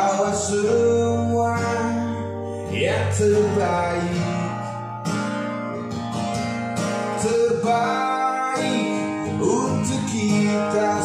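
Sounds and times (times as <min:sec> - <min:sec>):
pop ballad with acoustic guitar: 0:00.0 - 0:11.0.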